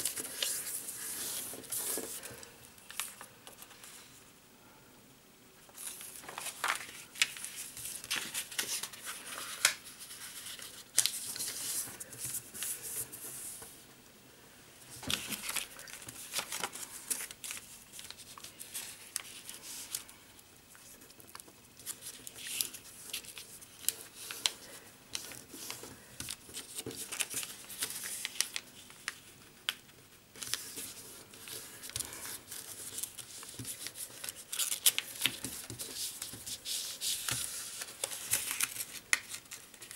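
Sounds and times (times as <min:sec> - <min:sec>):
paper rustling and crinkling: 0:00.0 - 0:04.1, 0:05.7 - 0:13.7, 0:14.9 - 0:20.1, 0:20.7 - 0:39.9.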